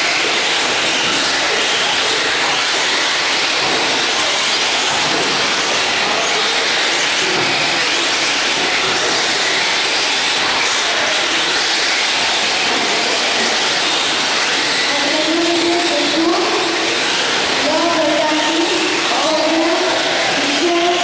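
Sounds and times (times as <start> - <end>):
radio-controlled cars racing: 0.0 - 21.0.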